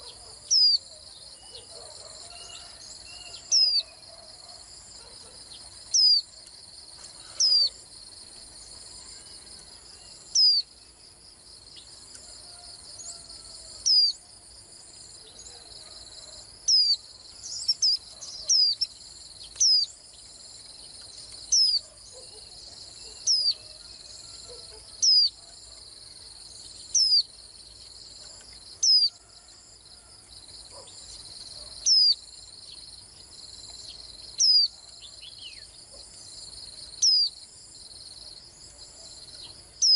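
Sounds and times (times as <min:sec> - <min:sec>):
bird chirping: 0:00.0 - 0:11.0, 0:11.6 - 0:14.2, 0:15.2 - 0:29.2, 0:30.5 - 0:37.4, 0:38.6 - 0:39.9.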